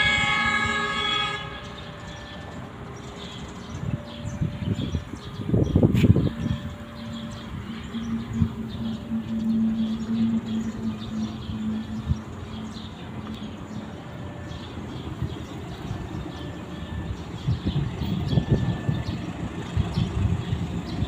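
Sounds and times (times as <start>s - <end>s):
distant locomotive hum: 0.0s - 21.0s
faint train rumble: 0.0s - 21.0s.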